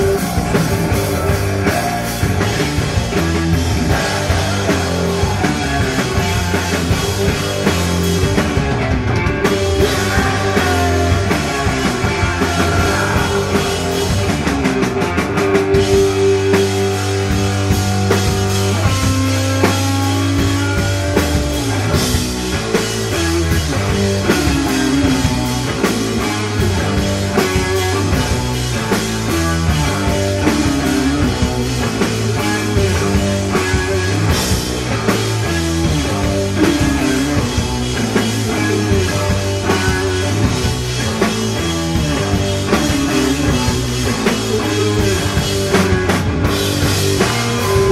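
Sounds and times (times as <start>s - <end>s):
rock band playing live: 0.0s - 47.9s.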